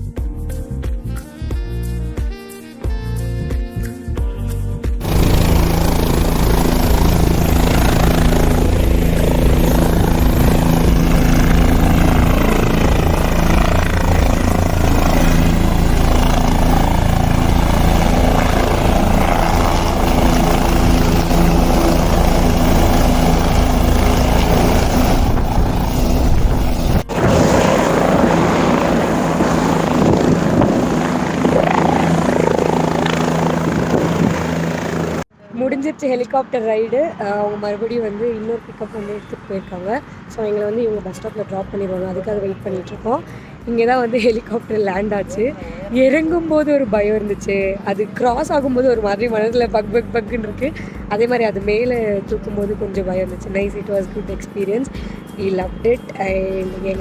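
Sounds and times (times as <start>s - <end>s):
helicopter rotor and engine drone: 5.0s - 35.3s, 37.2s - 57.0s.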